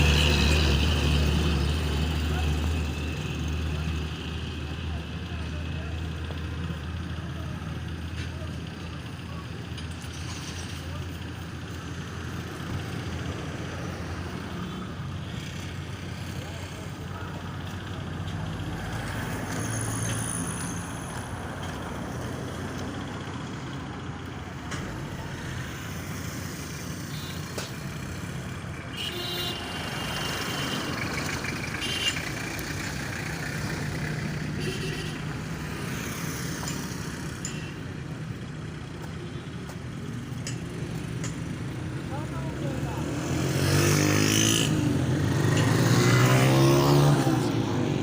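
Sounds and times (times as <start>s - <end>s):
traffic noise: 0.0s - 48.0s
vehicle engine rumble: 0.0s - 48.0s.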